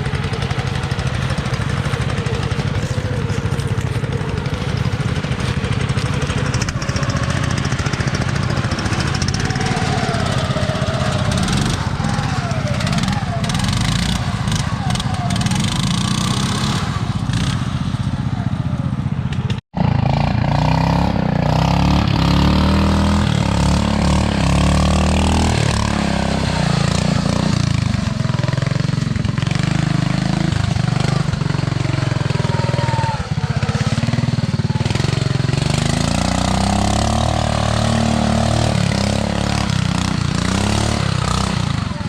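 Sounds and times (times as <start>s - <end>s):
small tractor engine revving: 0.0s - 42.0s.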